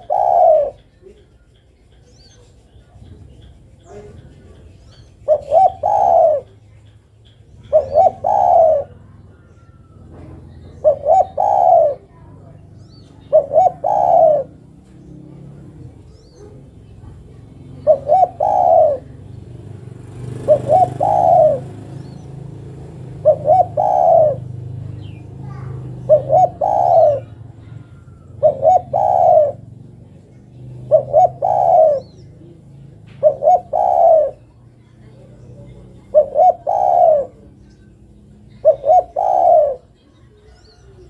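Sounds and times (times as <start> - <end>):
dove cooing: 0.0 - 1.4, 2.3 - 41.0.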